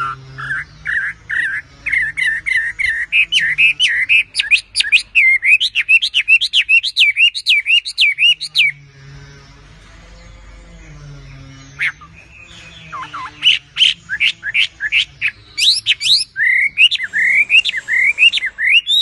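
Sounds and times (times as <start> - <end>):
songbird whistling: 0.0 - 8.8, 11.8 - 19.0.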